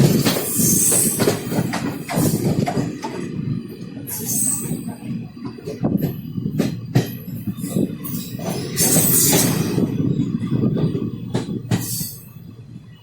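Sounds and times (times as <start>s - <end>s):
wheels clacking over rail joints: 0.0s - 12.2s
train coach rumbling on track: 0.0s - 13.0s.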